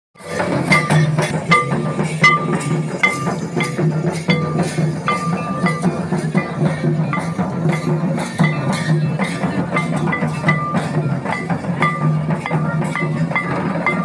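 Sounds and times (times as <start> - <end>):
hand drums beating: 0.2 - 14.0
ringing metallic strikes: 0.2 - 14.0.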